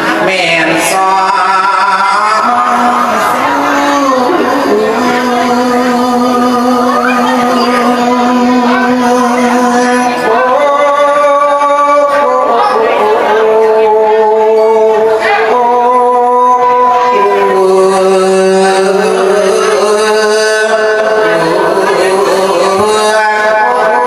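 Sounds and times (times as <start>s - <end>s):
monk chanting through a microphone: 0.0s - 24.0s.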